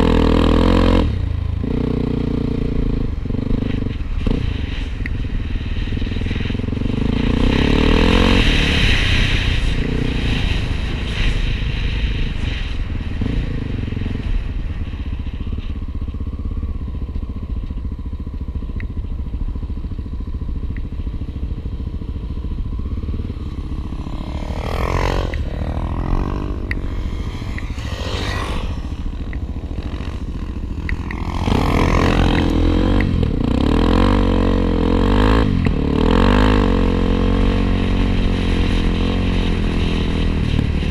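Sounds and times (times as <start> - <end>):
motorcycle engines running: 0.0 - 40.9.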